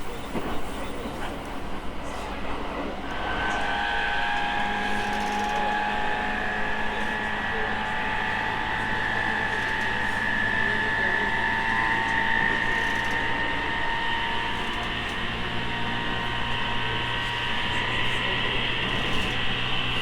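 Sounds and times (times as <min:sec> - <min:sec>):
train motor whine: 0:00.0 - 0:20.0
train rolling rumble: 0:00.0 - 0:20.0.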